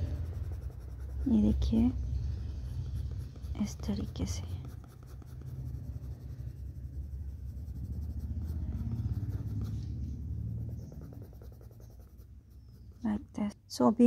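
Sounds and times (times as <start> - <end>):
steady low rumble: 0.0 - 12.7
pencil scratching on paper: 0.0 - 13.4.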